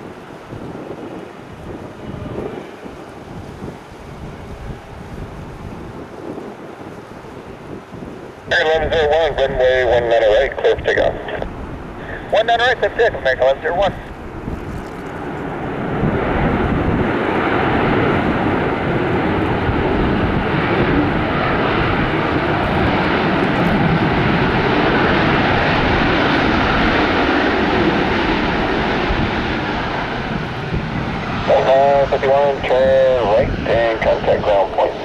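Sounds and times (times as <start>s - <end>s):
jet engines at takeoff: 0.0s - 35.0s.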